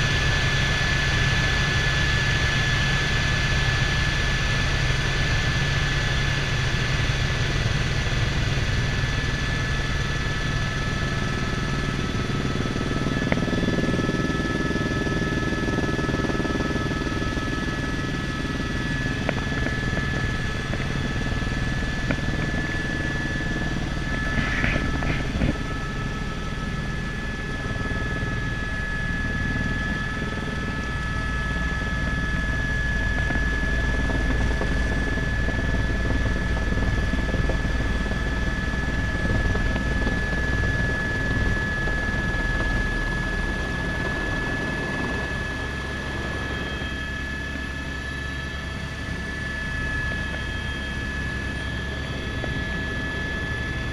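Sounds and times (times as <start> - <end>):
helicopter rotor rumble: 0.0 - 53.9
helicopter turbine whine: 0.0 - 53.9.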